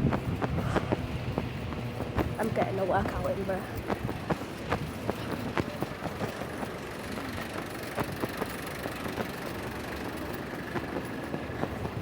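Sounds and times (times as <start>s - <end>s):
footsteps on pavement: 0.0s - 12.0s
road traffic rumble: 0.0s - 12.0s.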